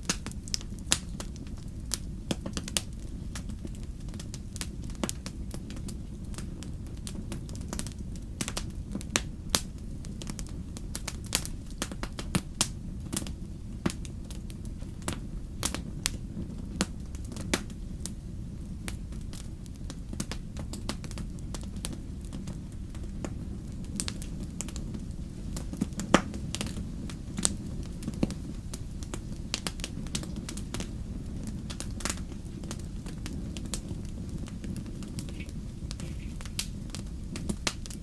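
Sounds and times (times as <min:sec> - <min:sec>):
low rumble of burning: 0:00.0 - 0:38.0
wood fire crackling and popping: 0:00.0 - 0:38.0.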